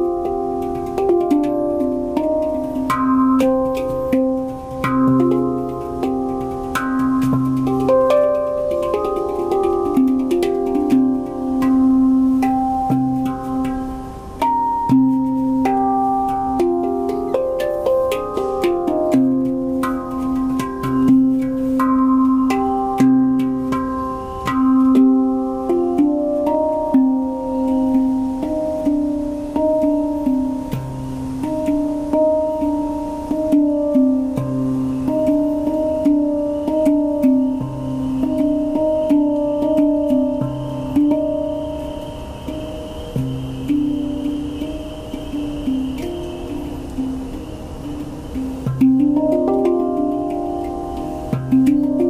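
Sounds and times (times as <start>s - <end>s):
handpan notes ringing: 0.0s - 52.0s
low handpan note: 0.0s - 52.0s.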